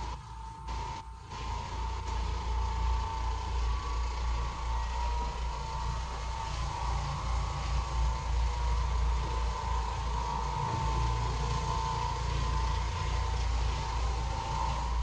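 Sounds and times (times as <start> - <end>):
floor machine motor humming: 0.0 - 15.0.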